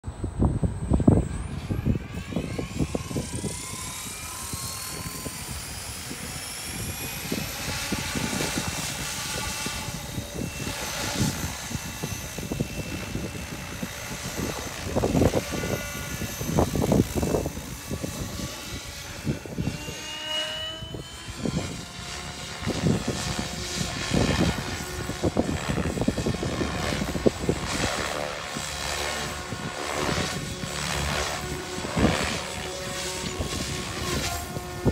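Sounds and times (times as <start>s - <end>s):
rc helicopter rotor whine: 0.0s - 34.9s
wind buffeting microphone: 0.0s - 34.9s.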